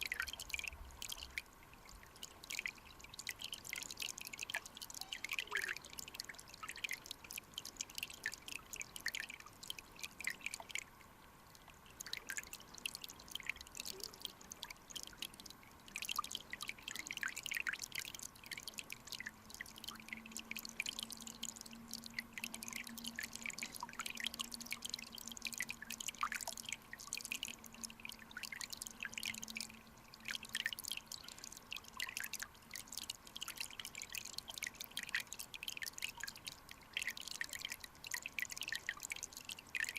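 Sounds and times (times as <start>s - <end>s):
underwater stream crackling: 0.0s - 39.9s.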